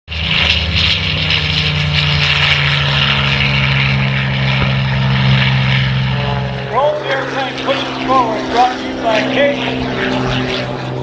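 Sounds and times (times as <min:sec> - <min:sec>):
aircraft engine and propeller drone: 0:00.1 - 0:11.0.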